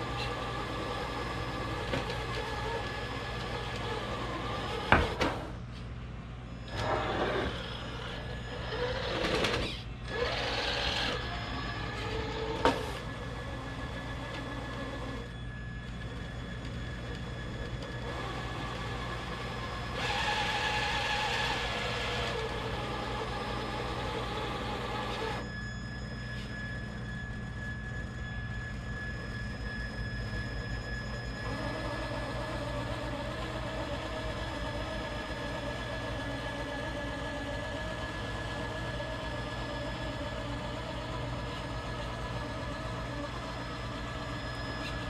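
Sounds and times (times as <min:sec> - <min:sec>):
small electric motor whirring: 0:00.0 - 0:05.2, 0:06.6 - 0:45.0.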